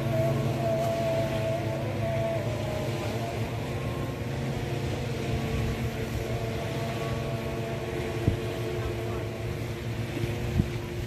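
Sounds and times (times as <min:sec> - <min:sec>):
boat engine droning: 0:00.0 - 0:11.0
water noise: 0:00.0 - 0:11.0
wind: 0:00.0 - 0:11.0.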